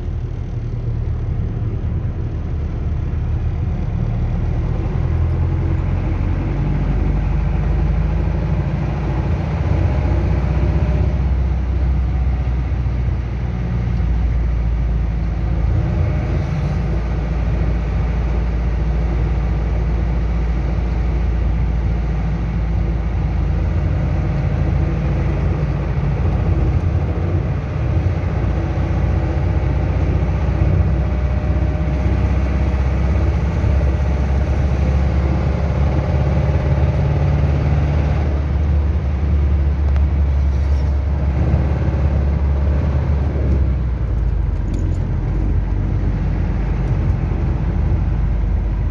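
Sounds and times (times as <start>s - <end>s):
diesel engine running: 0.0s - 48.9s
strange engine noise: 0.0s - 48.9s.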